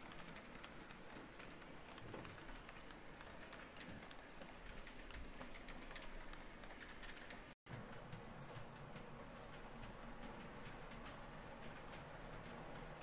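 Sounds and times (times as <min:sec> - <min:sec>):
model train wheels clicking on track: 0:00.0 - 0:13.0.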